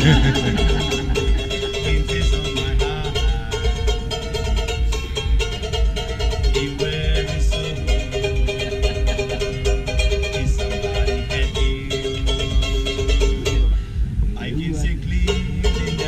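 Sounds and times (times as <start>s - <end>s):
fast-strummed ukulele: 0.0s - 13.8s, 14.8s - 16.0s
thumping drum beat: 0.0s - 16.0s.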